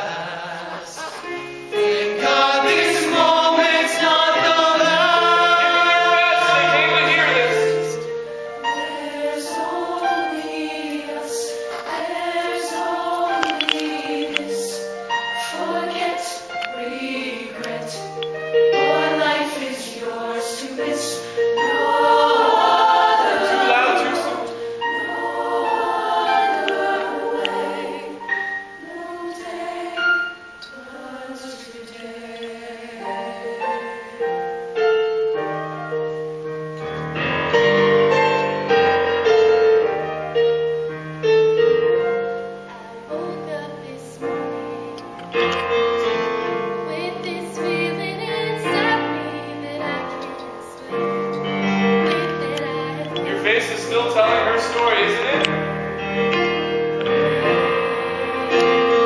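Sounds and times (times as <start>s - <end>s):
choir singing a slow ballad: 0.0s - 59.0s.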